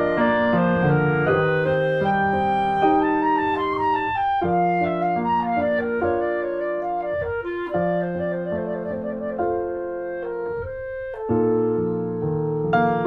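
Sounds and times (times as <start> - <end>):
piano: 0.0 - 13.0
slow woodwind melody: 0.0 - 13.0.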